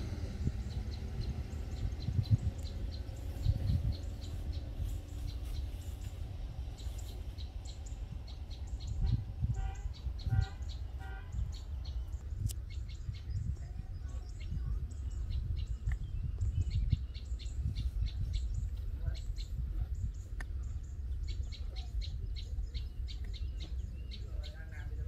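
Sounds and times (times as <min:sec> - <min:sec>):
low rumble: 0:00.0 - 0:25.0
lower pitched bird call: 0:00.0 - 0:25.0
small birds chirping: 0:00.0 - 0:25.0.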